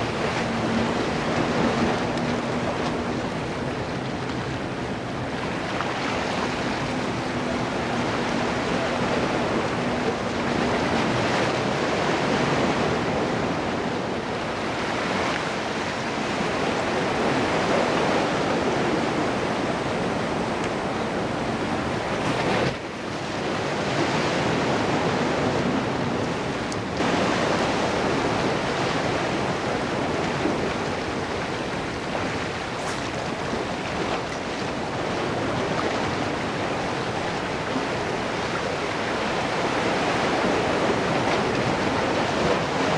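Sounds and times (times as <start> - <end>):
waves breaking against boulders: 0.0 - 42.9
wind buffeting microphone: 0.0 - 42.9.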